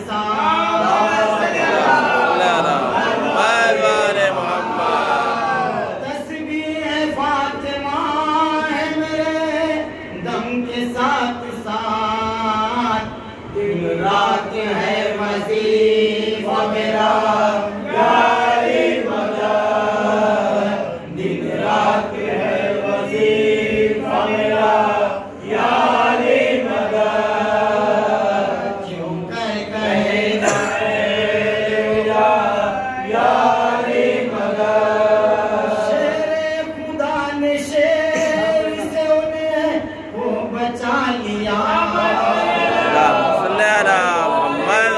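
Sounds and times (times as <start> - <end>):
man chanting into microphone: 0.0 - 25.2, 25.8 - 44.9
male voices chanting: 0.2 - 9.4, 13.7 - 44.9.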